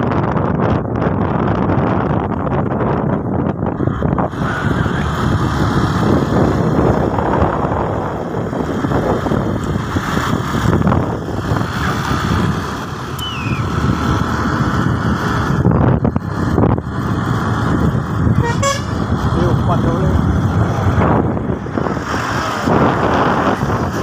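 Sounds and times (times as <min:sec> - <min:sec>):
vehicle engine and road noise: 0:00.0 - 0:24.0
wind buffeting microphone: 0:00.0 - 0:24.0.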